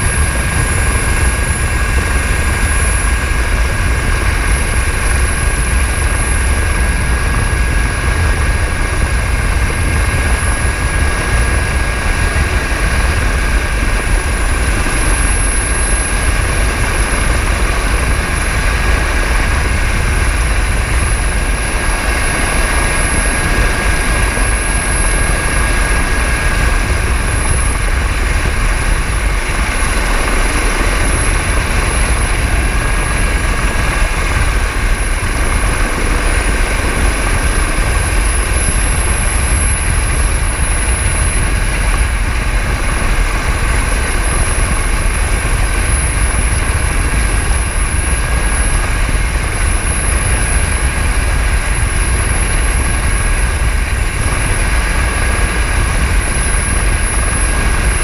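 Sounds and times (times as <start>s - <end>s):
helicopter rotor rumble: 0.0s - 58.0s
high turbine whine: 0.0s - 58.0s.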